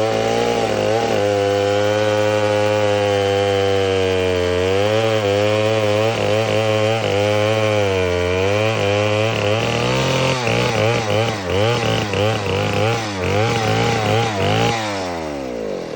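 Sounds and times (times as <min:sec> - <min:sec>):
chainsaw engine revving: 0:00.0 - 0:15.9.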